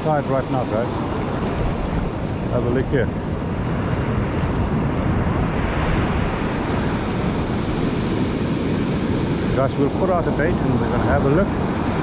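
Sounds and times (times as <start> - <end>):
ocean surf breaking on sand: 0.0 - 12.0
wind buffeting microphone: 0.0 - 12.0.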